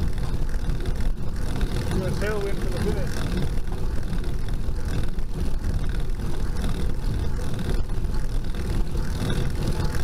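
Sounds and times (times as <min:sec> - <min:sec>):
bicycle road noise: 0:00.0 - 0:10.0.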